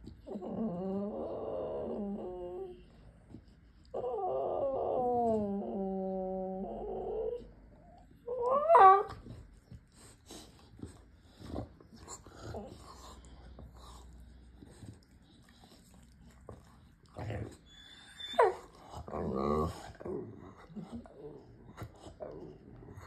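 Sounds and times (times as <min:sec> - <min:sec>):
dog moaning whine: 0:00.0 - 0:10.7, 0:11.3 - 0:23.0.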